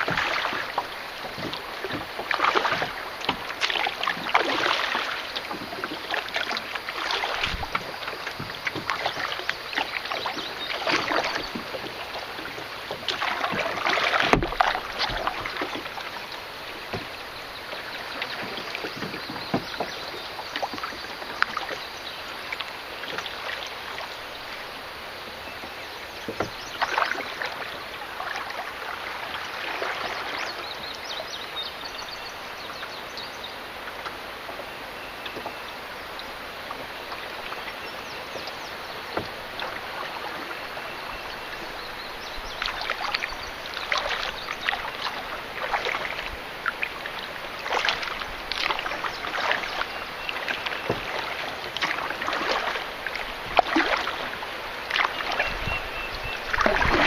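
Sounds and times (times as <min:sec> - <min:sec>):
paddle strokes in water: 0:00.0 - 0:57.0
rushing water: 0:00.0 - 0:57.0.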